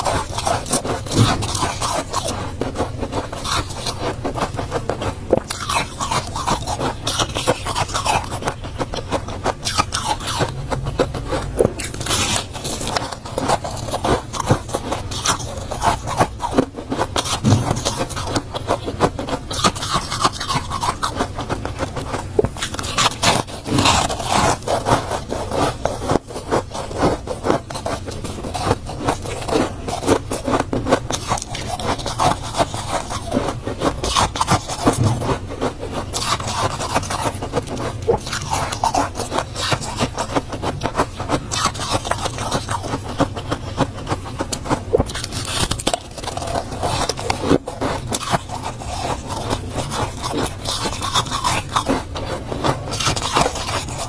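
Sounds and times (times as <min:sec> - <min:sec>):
frost being scraped: 0:00.0 - 0:54.0.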